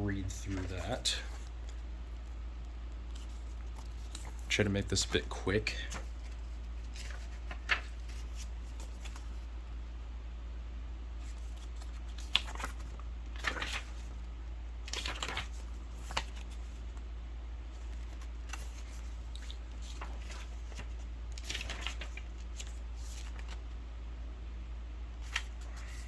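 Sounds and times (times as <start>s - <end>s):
steady low hum: 0.0s - 26.0s
paper pages rustling: 0.1s - 9.5s, 11.2s - 17.1s, 17.7s - 23.8s, 25.2s - 26.0s.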